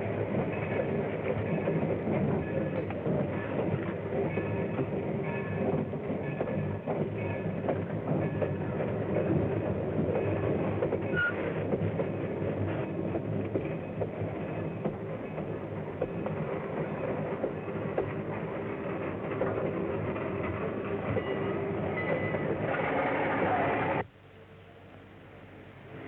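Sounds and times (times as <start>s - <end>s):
train cars rumbling and rattling: 0.0s - 26.0s.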